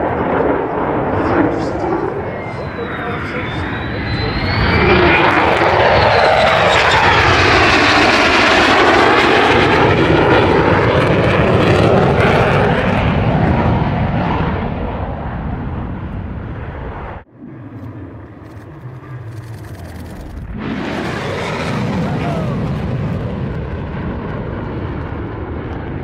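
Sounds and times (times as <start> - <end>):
jet roaring past: 0.0 - 26.0.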